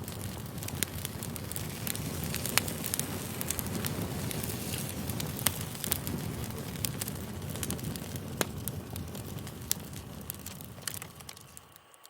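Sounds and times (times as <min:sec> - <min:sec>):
sharp pops of burning wood: 0:00.0 - 0:11.8
campfire crackling: 0:00.0 - 0:12.0.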